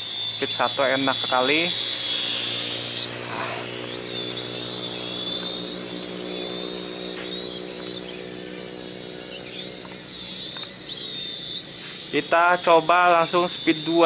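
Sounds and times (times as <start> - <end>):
toy drone propellers whining: 0.0 - 14.0.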